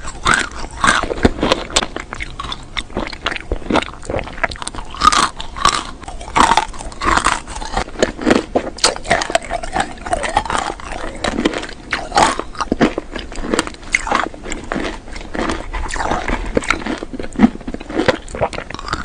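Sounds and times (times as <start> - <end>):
chewing hard candy: 0.0 - 19.0.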